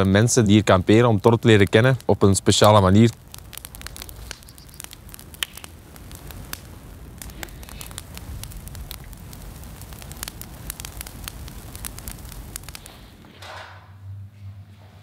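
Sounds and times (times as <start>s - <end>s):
campfire crackling: 0.0s - 13.6s.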